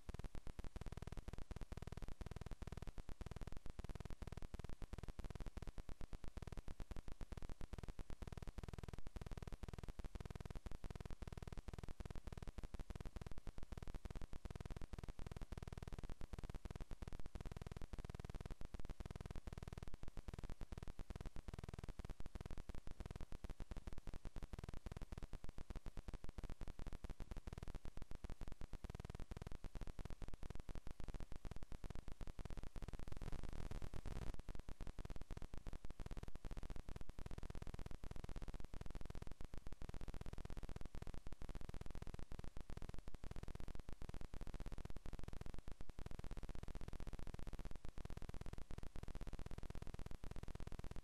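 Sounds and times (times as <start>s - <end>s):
faint hum: 0.0s - 51.0s
static hiss: 0.0s - 51.0s.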